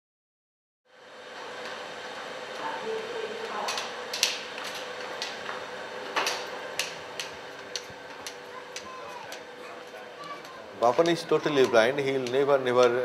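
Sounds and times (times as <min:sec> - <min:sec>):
faint hum: 0:00.9 - 0:13.0.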